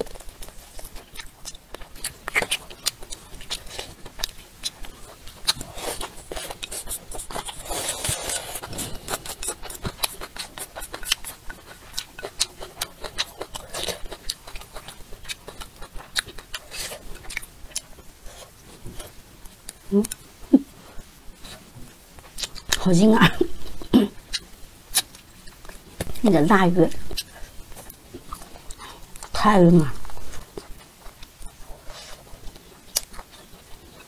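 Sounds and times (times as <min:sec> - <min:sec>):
person chewing: 0:00.0 - 0:21.6, 0:22.2 - 0:34.0.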